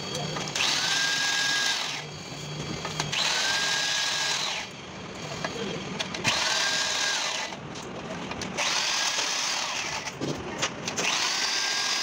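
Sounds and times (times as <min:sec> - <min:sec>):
angle grinder whining: 0:00.0 - 0:07.6, 0:08.6 - 0:10.2, 0:10.9 - 0:12.0.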